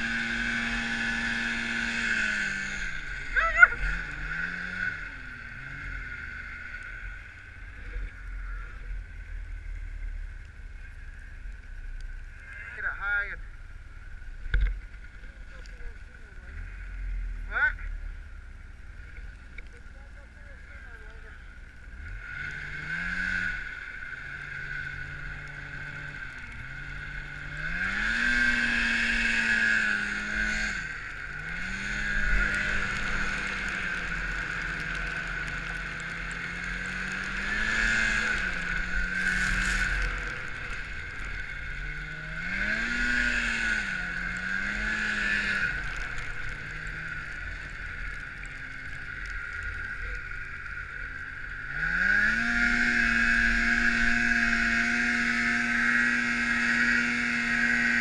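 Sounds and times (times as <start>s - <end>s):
snowmobile engine revving: 0.0s - 10.2s, 19.3s - 58.0s.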